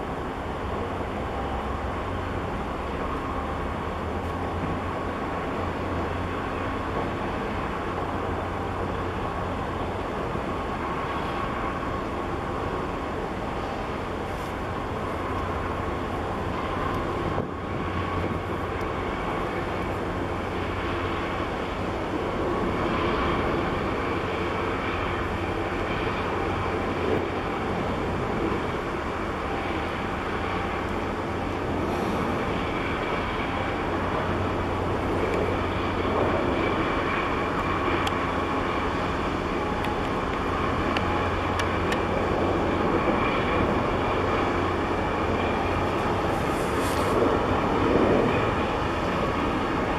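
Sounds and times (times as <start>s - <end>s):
faint steady whine: 0.0s - 49.9s
ship diesel engine drone: 0.0s - 49.9s.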